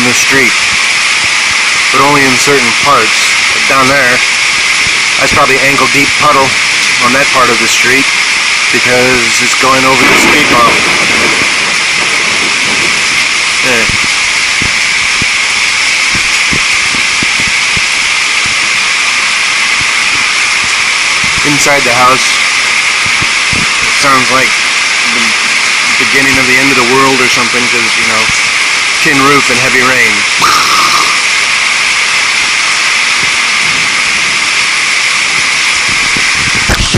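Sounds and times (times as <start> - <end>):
heavy rain pouring: 0.0 - 36.9.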